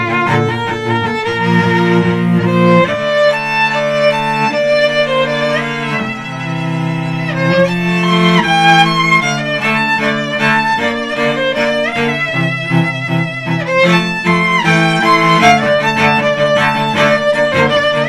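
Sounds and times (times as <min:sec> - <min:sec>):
bowed violin melody: 0:00.0 - 0:18.0
cello low sustained notes: 0:00.0 - 0:18.0.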